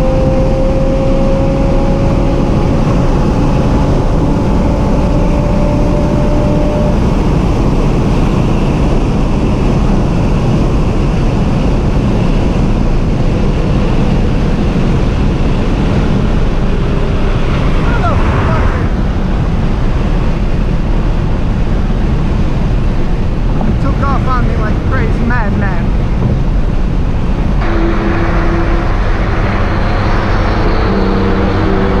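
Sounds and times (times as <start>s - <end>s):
car engine drone: 0.0s - 32.0s
road and wind noise: 0.0s - 32.0s.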